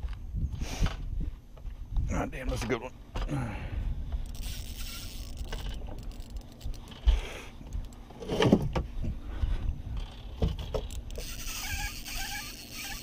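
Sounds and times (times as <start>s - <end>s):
wind rumbling on microphone: 0.0s - 2.7s, 3.5s - 12.2s.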